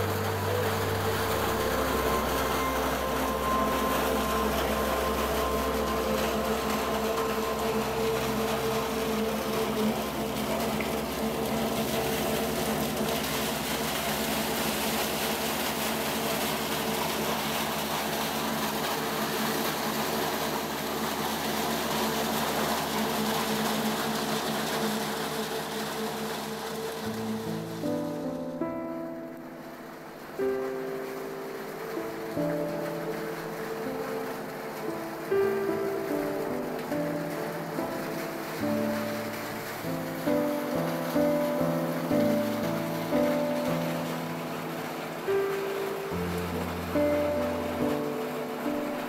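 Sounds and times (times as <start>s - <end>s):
ship engine machinery hum: 0.0s - 49.0s.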